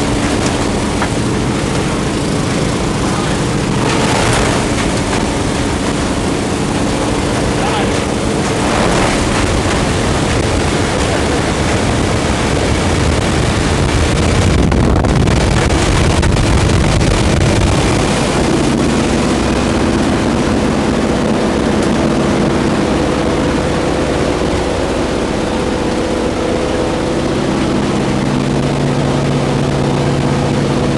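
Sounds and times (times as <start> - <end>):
plane piston engine drone: 0.0 - 30.9
wind rushing through open door: 0.0 - 30.9.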